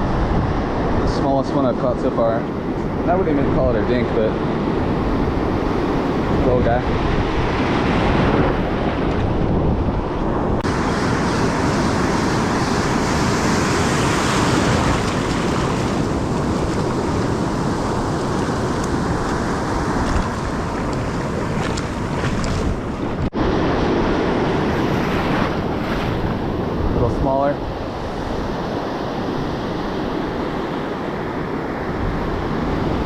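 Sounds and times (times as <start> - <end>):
ocean surf washing on beach: 0.0 - 33.0
wind buffeting microphone: 0.0 - 33.0.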